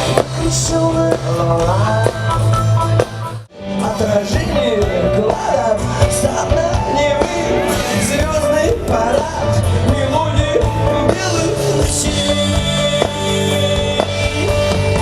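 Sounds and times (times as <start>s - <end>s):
person singing: 0.0s - 3.1s, 3.7s - 15.0s
live rock band playing: 0.0s - 15.0s.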